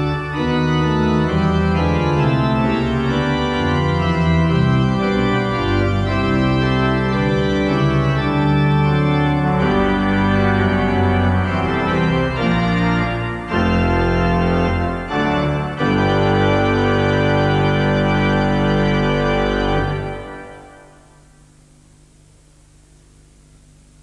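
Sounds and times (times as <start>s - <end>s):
slow held instrumental chords: 0.0s - 21.8s.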